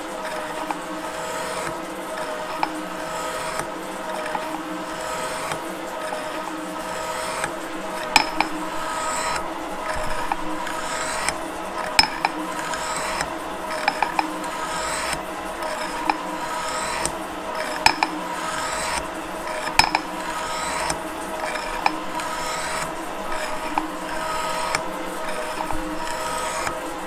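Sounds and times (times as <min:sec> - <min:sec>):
metal shaper mechanical hum: 0:00.0 - 0:27.0.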